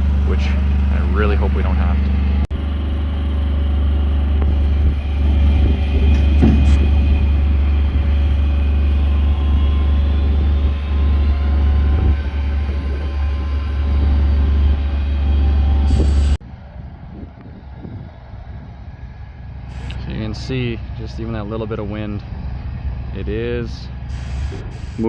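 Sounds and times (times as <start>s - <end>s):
crane engine rumbling: 0.0s - 25.0s.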